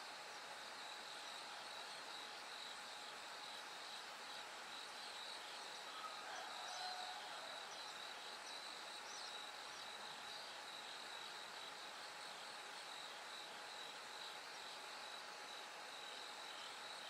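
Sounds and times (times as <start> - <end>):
crickets singing: 0.3 - 17.0.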